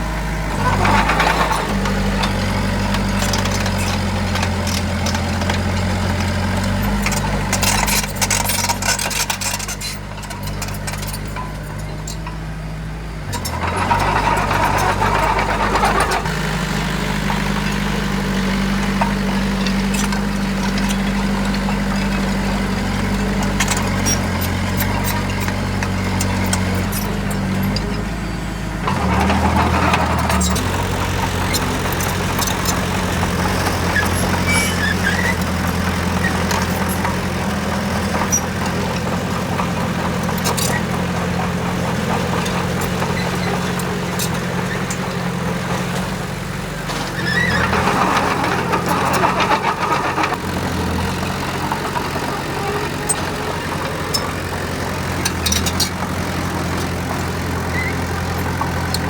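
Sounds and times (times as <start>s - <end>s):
heavy diesel engine running: 0.0s - 59.0s
metallic clanks and rattles: 0.5s - 59.0s.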